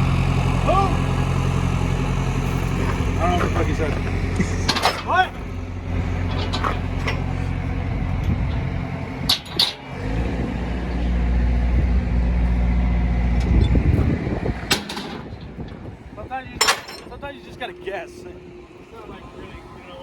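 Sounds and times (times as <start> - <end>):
vehicle engine running: 0.0 - 16.5.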